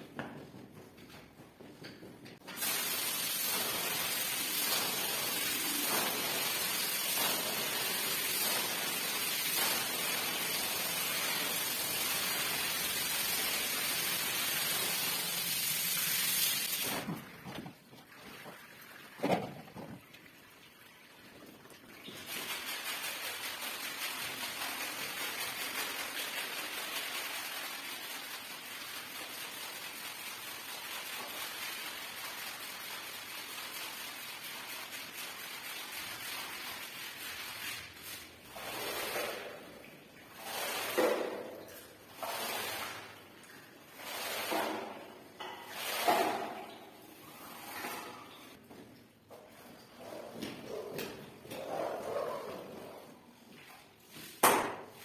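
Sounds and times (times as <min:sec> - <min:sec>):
hose water spraying on floor: 0:02.4 - 0:17.4, 0:21.9 - 0:48.6, 0:51.5 - 0:55.0.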